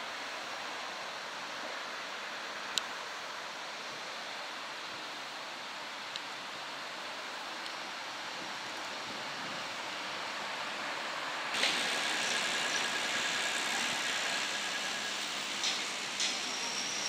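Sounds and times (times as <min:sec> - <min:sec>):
city street traffic noise: 0:00.0 - 0:17.0.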